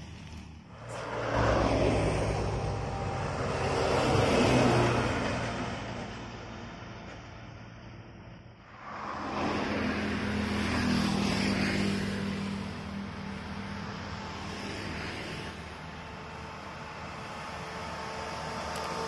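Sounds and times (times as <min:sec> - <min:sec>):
bus engine: 0:00.0 - 0:19.0
truck passing: 0:00.0 - 0:19.0
motorcycles passing: 0:00.8 - 0:06.2, 0:08.7 - 0:19.0.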